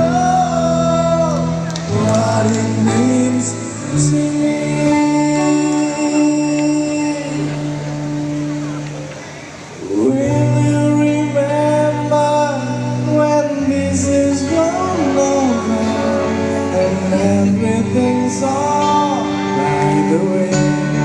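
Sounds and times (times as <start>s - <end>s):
person singing long notes: 0.0s - 9.0s, 9.8s - 21.0s
live pop band playing: 0.0s - 21.0s.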